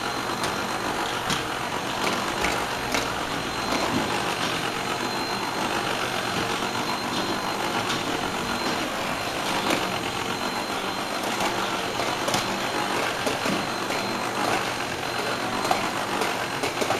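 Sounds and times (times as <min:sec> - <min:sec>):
vacuum cleaner running: 0:00.0 - 0:16.9.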